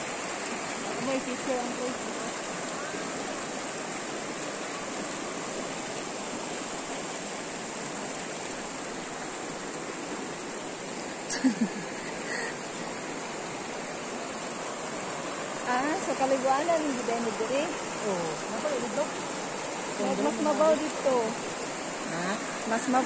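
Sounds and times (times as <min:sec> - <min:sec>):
river rushing over stones: 0:00.0 - 0:23.0.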